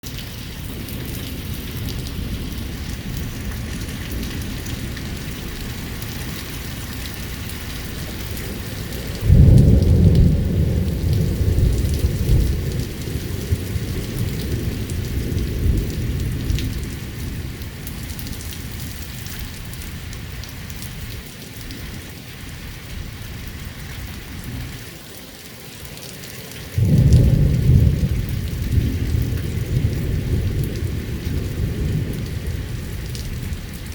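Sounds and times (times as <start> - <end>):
rain falling: 0.0 - 33.9
thunder claps rumbling: 0.1 - 21.2, 26.8 - 33.9.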